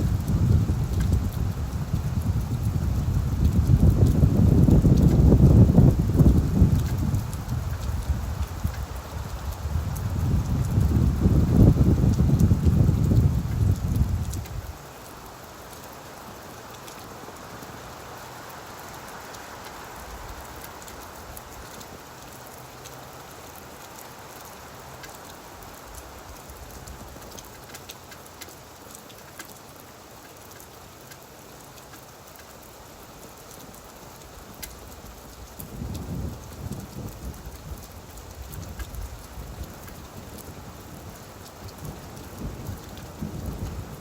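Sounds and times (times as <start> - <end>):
rain falling on leaves: 0.0 - 44.0
raindrops ticking: 0.0 - 44.0.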